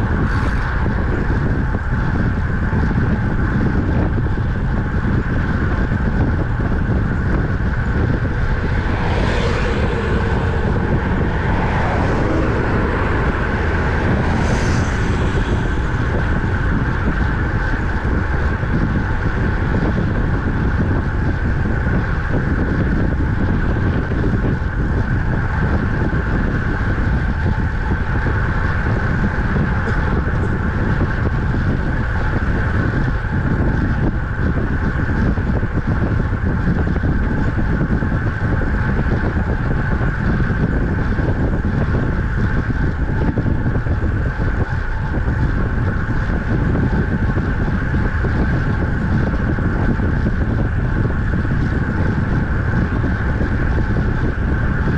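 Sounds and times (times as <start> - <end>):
tyres humming on road: 0.0 - 54.9
wind rushing over microphone: 0.0 - 54.9.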